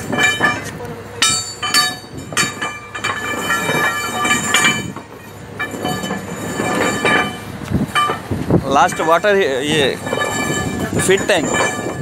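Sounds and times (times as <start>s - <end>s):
metal pipes and crowbars clanking: 0.0s - 12.0s
metal scraping and rumbling: 0.0s - 12.0s.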